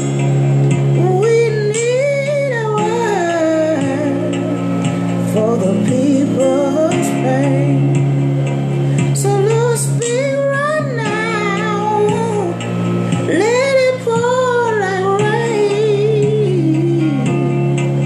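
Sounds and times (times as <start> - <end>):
sustained instrumental accompaniment: 0.0 - 18.0.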